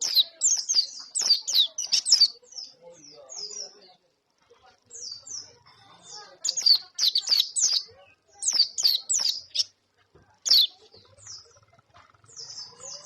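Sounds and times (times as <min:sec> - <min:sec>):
bird chirping: 0:00.0 - 0:04.0, 0:04.9 - 0:09.8, 0:10.4 - 0:13.0.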